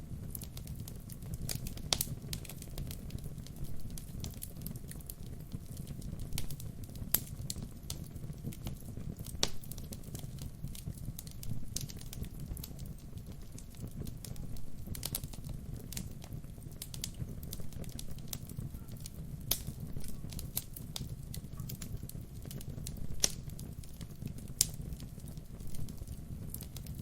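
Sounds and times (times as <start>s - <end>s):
burning logs crackling and popping: 0.0s - 27.0s
low rumble of flames: 0.0s - 27.0s.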